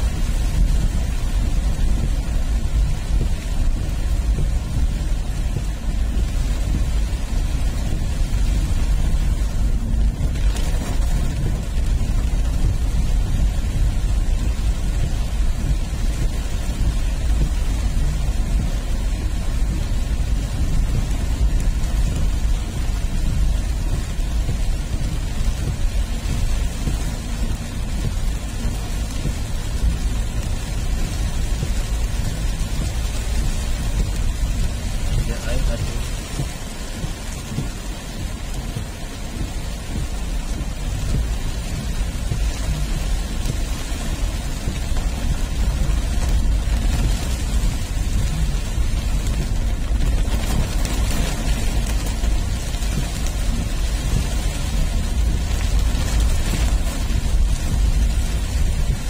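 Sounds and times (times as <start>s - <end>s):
deep rumble: 0.0s - 59.0s
rain hiss: 0.0s - 59.0s.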